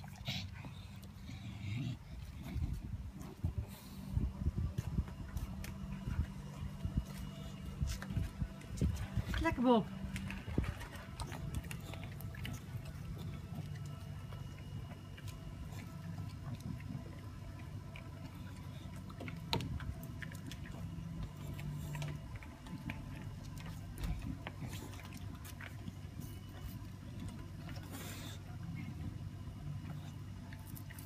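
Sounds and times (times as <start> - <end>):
dog licking and chewing: 0.0 - 31.0.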